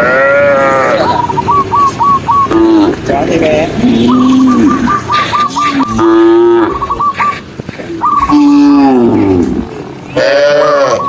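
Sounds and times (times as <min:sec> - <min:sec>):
cattle mooing: 0:00.0 - 0:07.4, 0:08.0 - 0:11.0.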